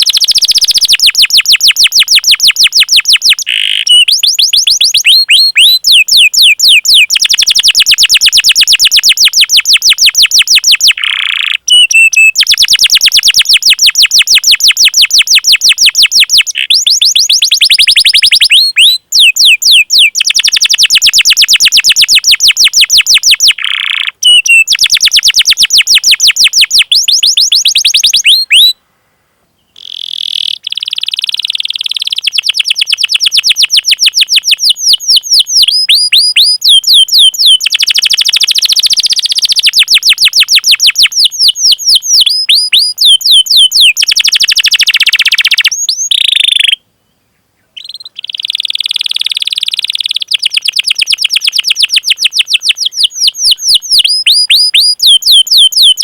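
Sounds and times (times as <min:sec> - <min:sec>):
canary singing chirps: 0:00.0 - 0:28.8, 0:29.6 - 0:46.8, 0:47.7 - 0:56.0.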